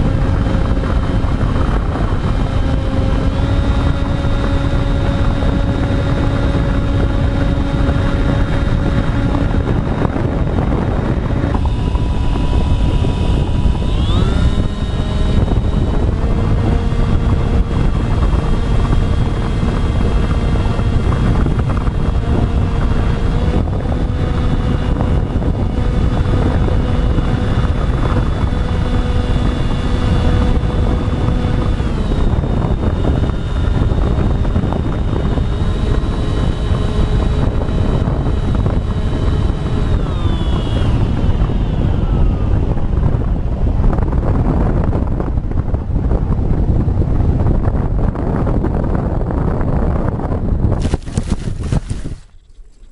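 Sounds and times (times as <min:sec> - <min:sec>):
electric motors and propellers whining: 0:00.0 - 0:52.9
heavy low rumble: 0:00.0 - 0:52.9.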